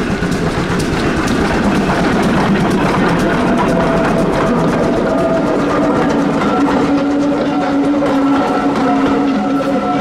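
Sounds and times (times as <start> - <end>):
carriages rattling over rails: 0.0 - 10.0
steam locomotive wheels clanking: 0.0 - 10.0.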